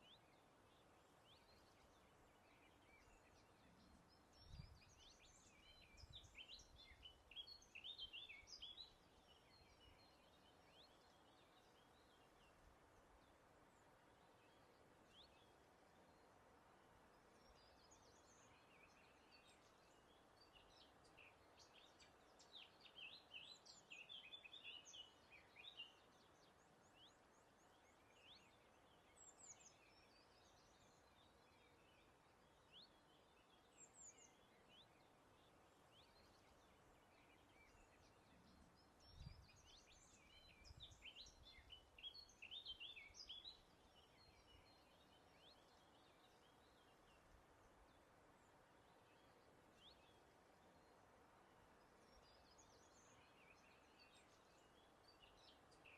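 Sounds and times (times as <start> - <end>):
soft steady background hiss: 0.0 - 55.9
songbirds chirping and trilling: 0.0 - 55.9.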